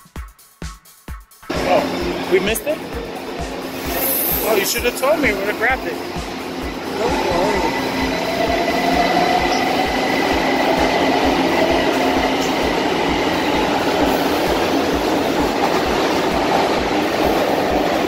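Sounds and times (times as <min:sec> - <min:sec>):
train wheels clattering over rails: 0:02.3 - 0:18.0.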